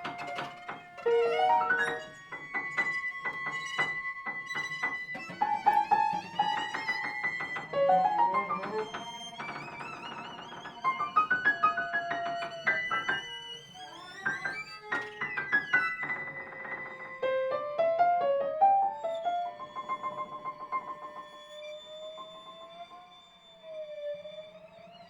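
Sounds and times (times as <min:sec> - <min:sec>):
held string tones: 0:00.0 - 0:22.8
piano runs: 0:00.0 - 0:25.0.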